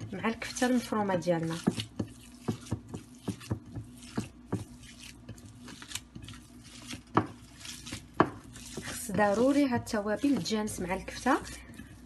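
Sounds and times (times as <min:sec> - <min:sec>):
hands kneading minced meat: 0:00.0 - 0:12.0.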